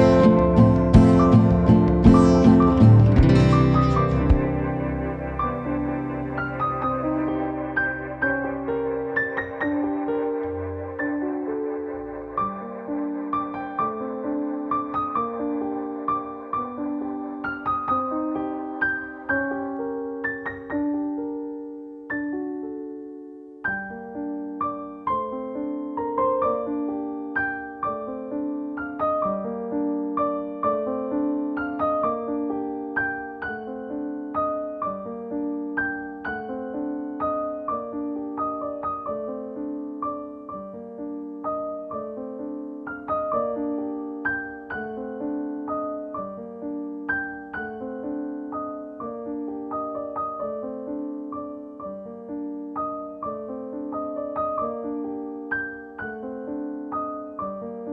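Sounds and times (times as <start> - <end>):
piano music: 0.0 - 57.9.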